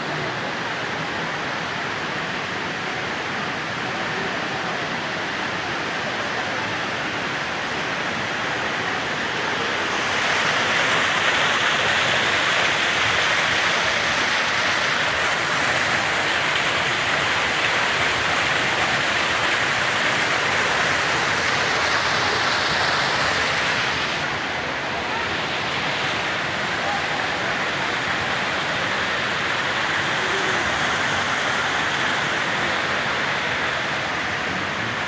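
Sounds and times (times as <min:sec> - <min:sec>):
rush of falling water: 0:00.0 - 0:35.0.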